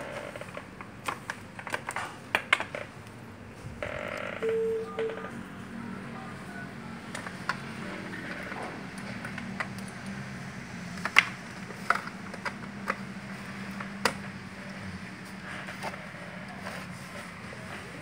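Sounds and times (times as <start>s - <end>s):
steady low hum: 2.8s - 18.0s.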